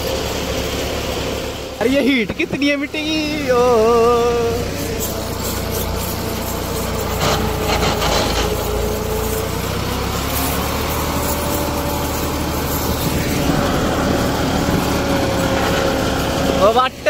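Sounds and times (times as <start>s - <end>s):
cultivator rattling and scraping: 0.0s - 17.0s
diesel tractor engine under load: 0.0s - 17.0s.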